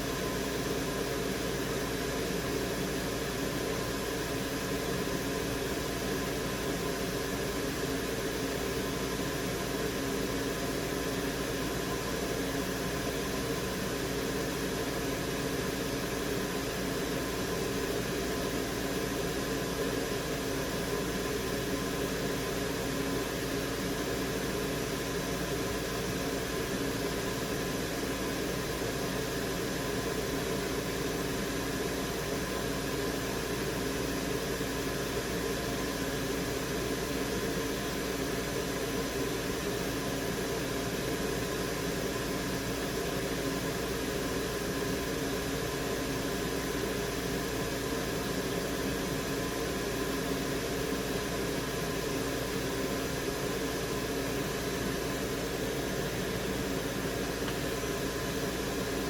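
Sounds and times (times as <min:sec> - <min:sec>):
electric fan hissing: 0:00.0 - 0:59.0
faint multi-tone hum: 0:00.0 - 0:59.0.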